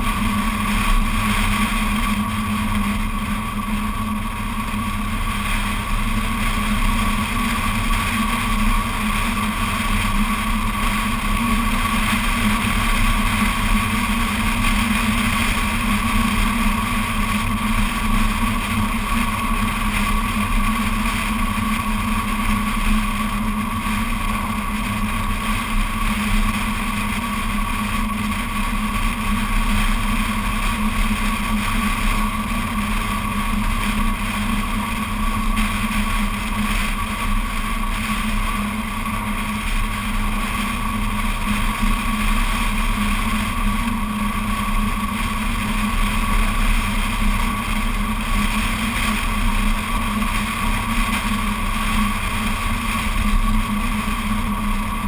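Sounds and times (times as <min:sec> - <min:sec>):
car engine drone: 0:00.0 - 0:55.0
road and wind rumble: 0:00.0 - 0:55.0.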